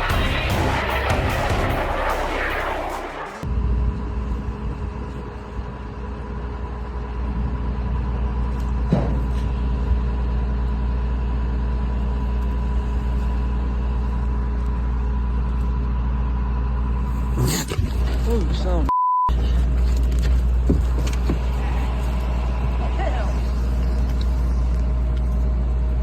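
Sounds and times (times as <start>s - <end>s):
engine rumble: 0.0s - 26.0s.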